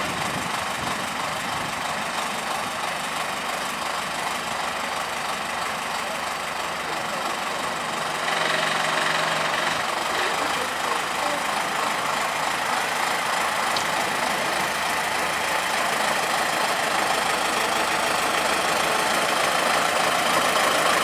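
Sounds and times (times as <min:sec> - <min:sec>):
diesel locomotive engine running: 0:00.0 - 0:21.0.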